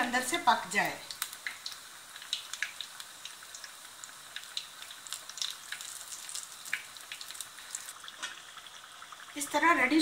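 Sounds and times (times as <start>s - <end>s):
deep-frying sizzle with pops: 0.0s - 10.0s.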